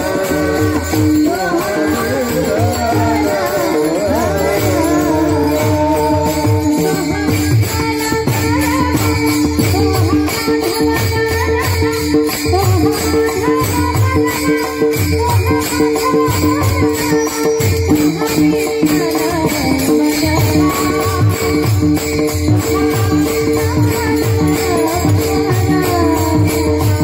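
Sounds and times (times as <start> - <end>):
devotional singing: 0.0 - 27.0
hand cymbals clashing: 0.0 - 27.0.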